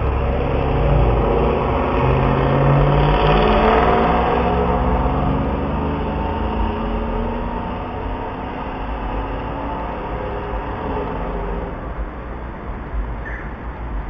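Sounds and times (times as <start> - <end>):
car with loud exhaust driving off: 0.0 - 13.4.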